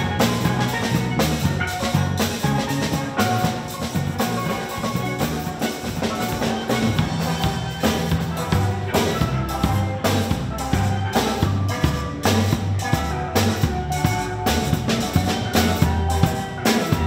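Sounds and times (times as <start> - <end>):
drum kit beat: 0.0 - 17.0
electric bass guitar: 0.0 - 17.0
steel pans: 0.0 - 17.0.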